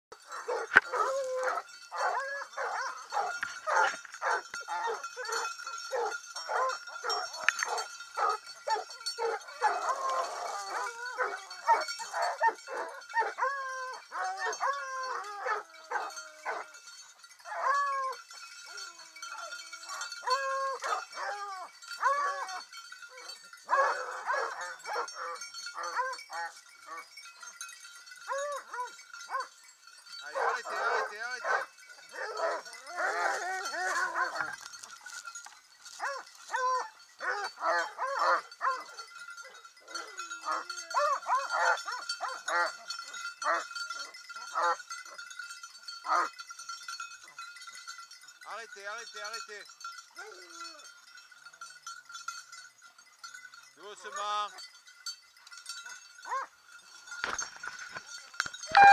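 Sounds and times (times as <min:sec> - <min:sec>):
hounds barking and baying: 0:00.1 - 0:48.1, 0:48.8 - 0:51.2, 0:55.4 - 0:58.9.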